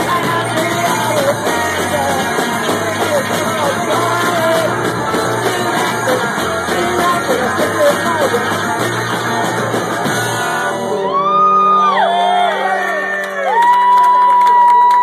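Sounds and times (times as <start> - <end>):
ringing guitar tone: 0.0 - 13.0
punk rock band playing: 0.0 - 13.2.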